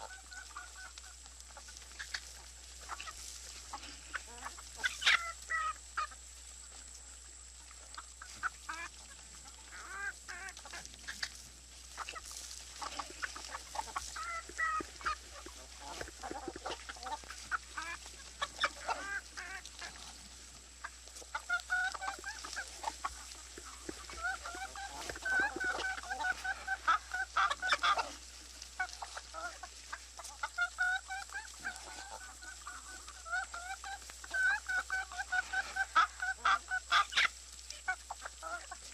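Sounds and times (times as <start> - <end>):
poultry calling: 0.0 - 6.8, 7.6 - 38.9.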